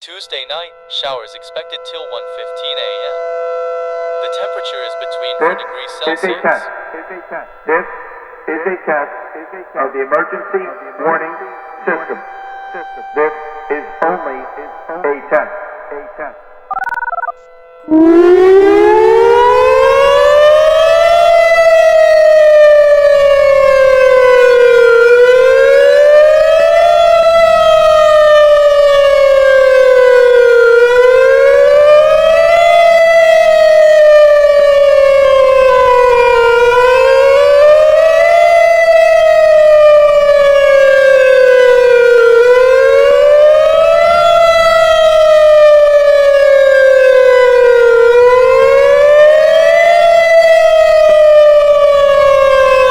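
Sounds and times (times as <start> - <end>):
warning siren wailing: 0.3 - 52.9.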